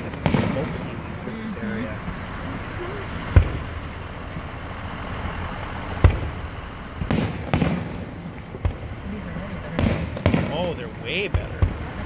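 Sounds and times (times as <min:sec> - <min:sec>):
firework shells booming: 0:00.0 - 0:02.3, 0:03.2 - 0:04.6, 0:05.8 - 0:12.0
low rumble: 0:00.0 - 0:12.0.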